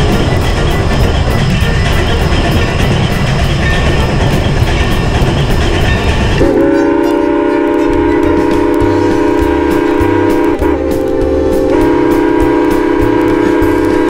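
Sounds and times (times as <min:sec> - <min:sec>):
locomotive chime whistle: 0:00.0 - 0:14.0.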